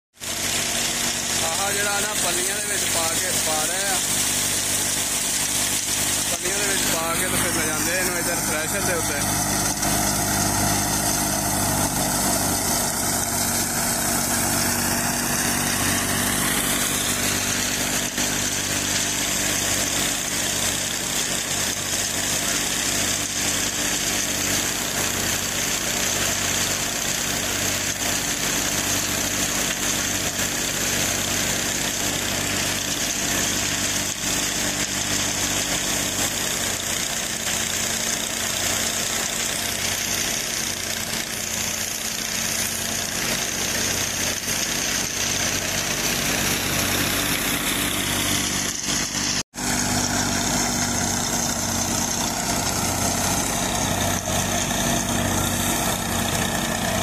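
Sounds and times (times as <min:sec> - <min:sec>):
thresher drum whirring rattle: 0:00.2 - 0:57.0
tractor diesel engine running: 0:00.2 - 0:57.0.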